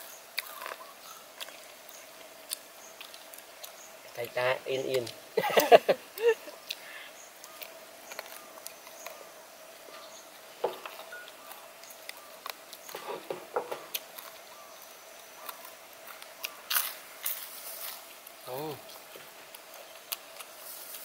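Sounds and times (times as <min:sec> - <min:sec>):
faint steady tone: 0:00.0 - 0:20.0
chewing crispy fried food: 0:00.0 - 0:21.0.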